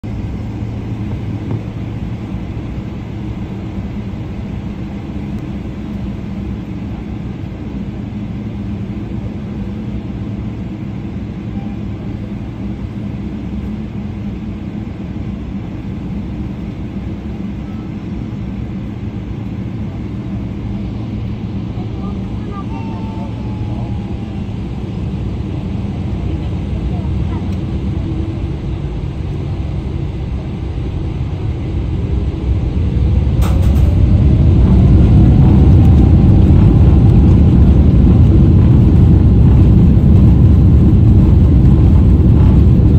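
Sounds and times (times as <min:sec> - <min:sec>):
airliner cabin drone: 0:00.0 - 0:42.9.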